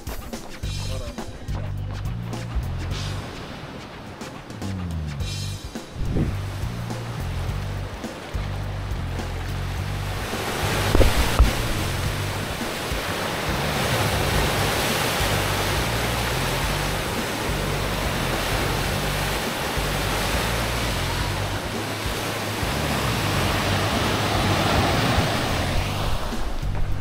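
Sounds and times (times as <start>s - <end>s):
waves breaking against seawall: 3.0s - 5.0s, 5.7s - 27.0s.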